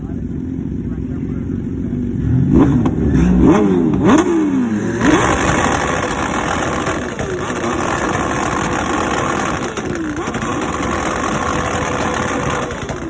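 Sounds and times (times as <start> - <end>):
engine revving in quick blips: 2.2 - 13.0.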